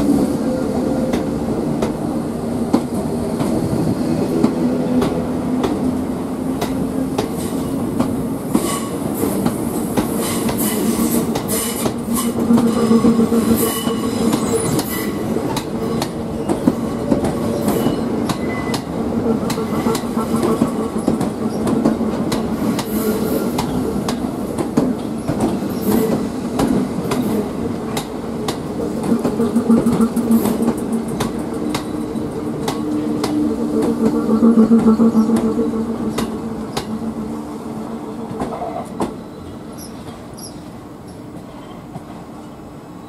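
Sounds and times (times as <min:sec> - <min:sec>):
electric train hum: 0:00.0 - 0:43.0.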